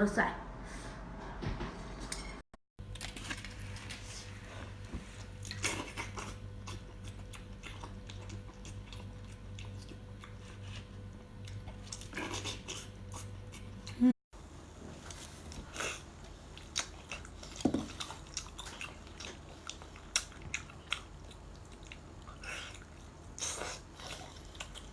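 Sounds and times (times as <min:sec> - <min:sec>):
person chewing crunchy food: 0:03.0 - 0:14.0, 0:15.0 - 0:24.9.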